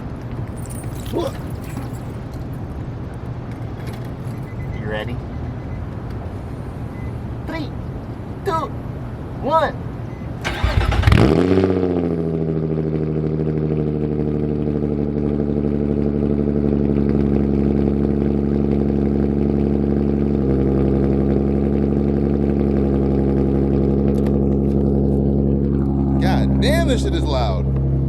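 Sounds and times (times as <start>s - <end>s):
sports car engine idling: 0.0s - 9.2s, 10.1s - 28.0s.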